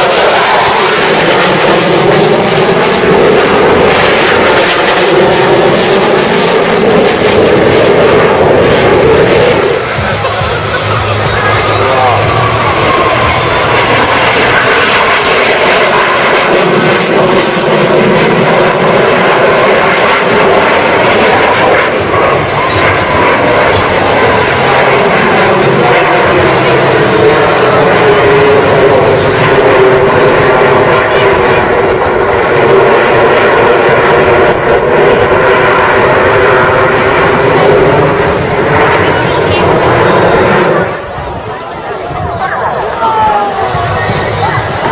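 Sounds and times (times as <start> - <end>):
jet aircraft flying past: 0.0 - 44.9.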